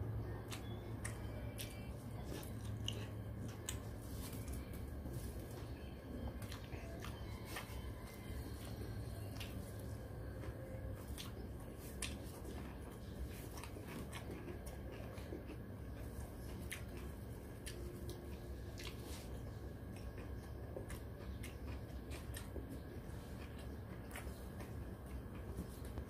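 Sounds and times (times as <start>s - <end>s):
chewing and biting: 0.0s - 26.0s
steady low hum: 0.0s - 26.0s.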